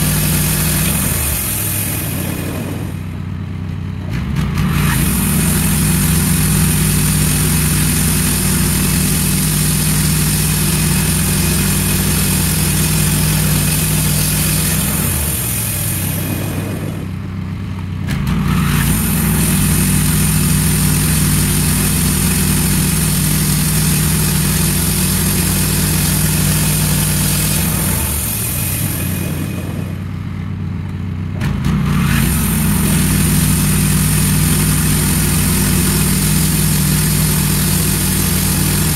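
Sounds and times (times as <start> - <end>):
band blade cutting wood: 0.0 - 3.1, 4.1 - 17.2, 18.1 - 30.0, 31.5 - 38.9
sawmill engine running: 0.0 - 38.9.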